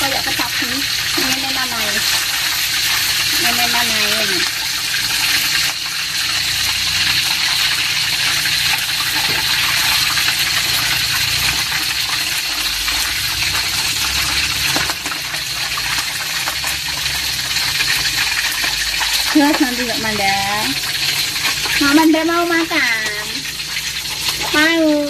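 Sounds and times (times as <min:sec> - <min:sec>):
oil sizzling with small pops: 0:00.0 - 0:25.0.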